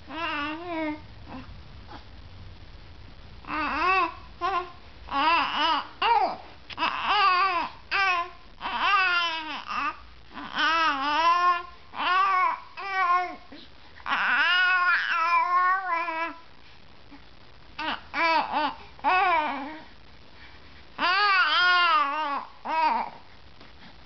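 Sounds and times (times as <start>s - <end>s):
infant cooing and babbling: 0.1s - 2.0s, 3.4s - 16.4s, 17.8s - 19.9s, 21.0s - 23.3s.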